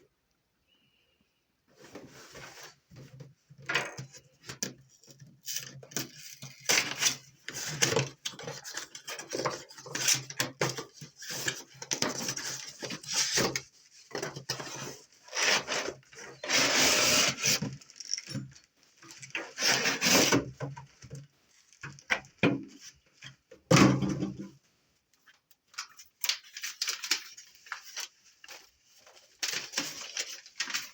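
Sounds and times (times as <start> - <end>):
plastic and cardboard packaging handling: 4.0 - 23.4, 25.2 - 30.9.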